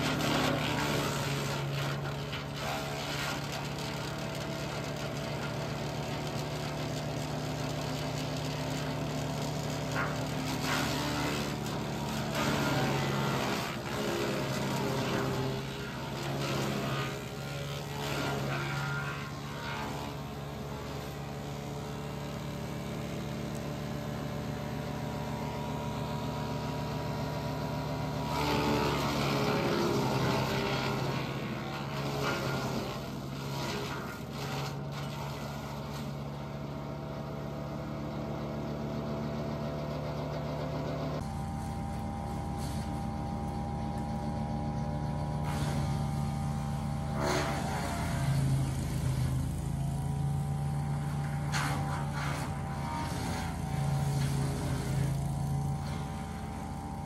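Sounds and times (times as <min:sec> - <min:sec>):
wood chipper engine running: 0:00.0 - 0:57.0.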